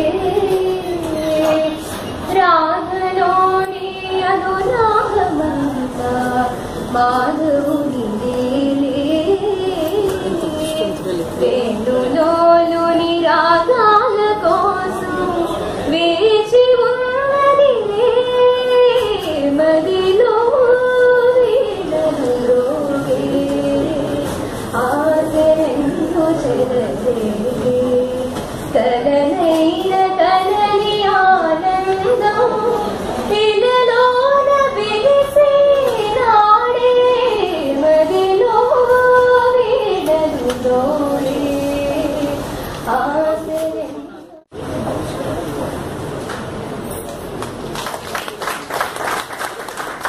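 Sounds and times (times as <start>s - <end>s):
woman singing slow melody: 0.0s - 44.2s.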